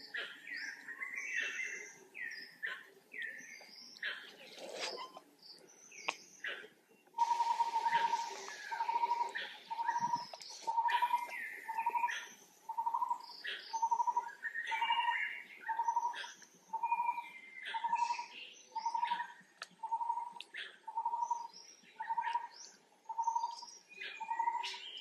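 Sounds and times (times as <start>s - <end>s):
bird chirps and tweets: 0.0s - 25.0s.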